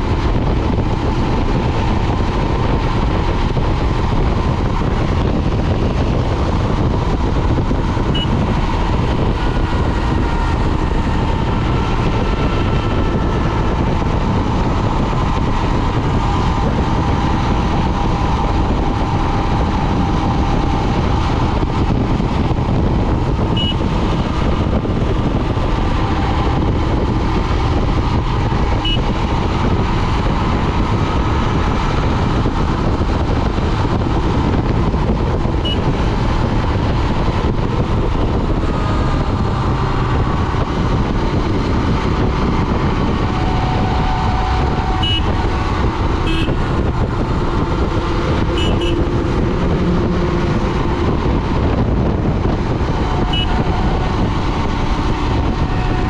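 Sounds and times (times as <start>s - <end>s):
motorcycle engine cruising: 0.0s - 56.0s
road noise: 0.0s - 56.0s
wind noise: 0.0s - 56.0s.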